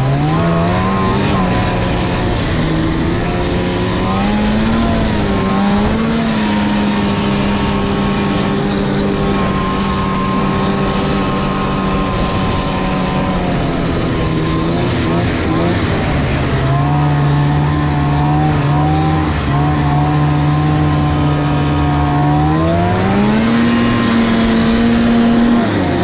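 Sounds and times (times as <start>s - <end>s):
snowmobile engine running: 0.0s - 26.0s
steady rushing noise: 0.0s - 26.0s.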